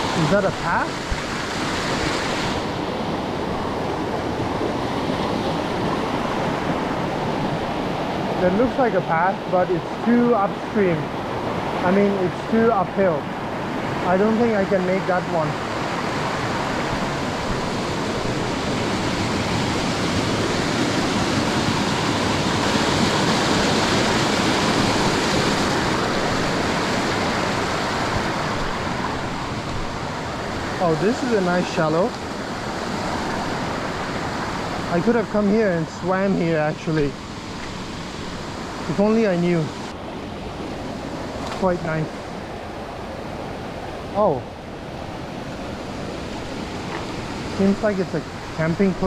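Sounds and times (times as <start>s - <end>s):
stream water rushing: 0.0s - 49.0s.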